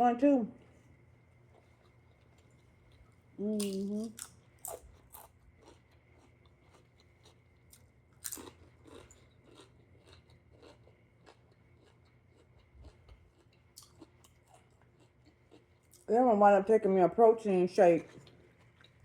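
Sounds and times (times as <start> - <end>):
crunching of crisp snack food: 1.4 - 16.1, 18.0 - 19.0.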